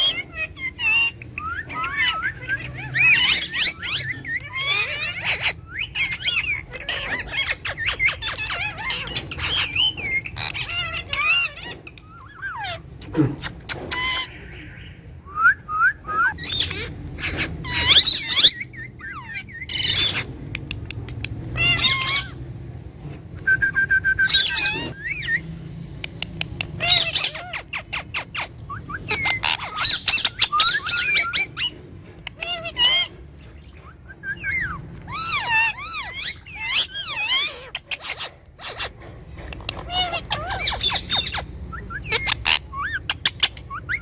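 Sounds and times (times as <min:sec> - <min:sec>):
parakeets chirping and squawking: 0:00.0 - 0:44.0.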